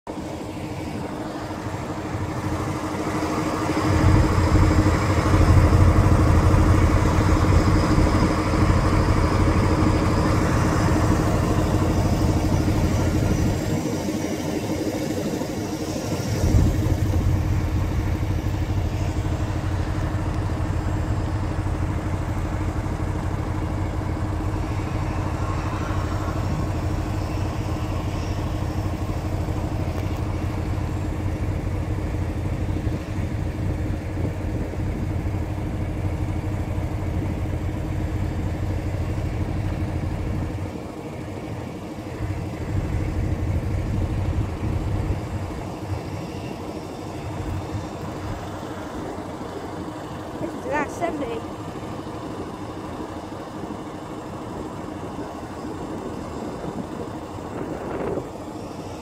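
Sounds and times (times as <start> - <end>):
locomotive diesel engine running: 0.0 - 59.0.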